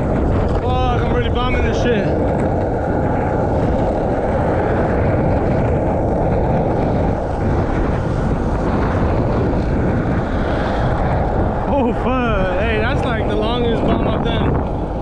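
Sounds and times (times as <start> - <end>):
skateboard wheels rumbling on asphalt: 0.0 - 15.0
wind buffeting microphone: 0.0 - 15.0.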